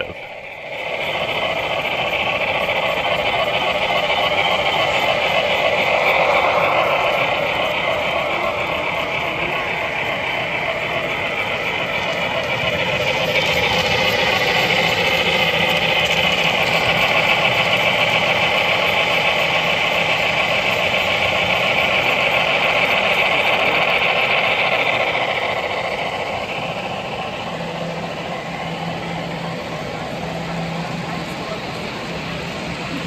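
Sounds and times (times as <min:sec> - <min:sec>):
model train mechanical whirring: 0:00.0 - 0:33.0.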